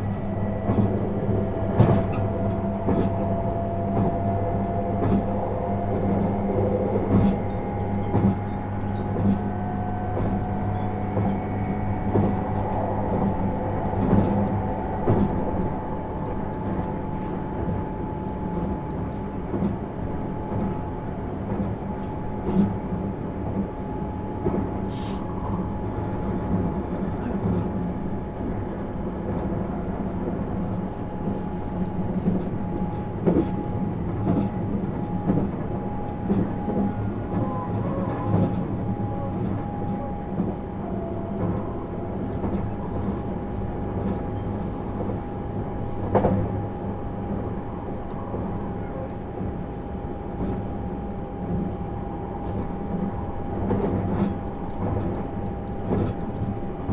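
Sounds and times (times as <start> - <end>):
train cabin rumble and whine: 0.0 - 56.9.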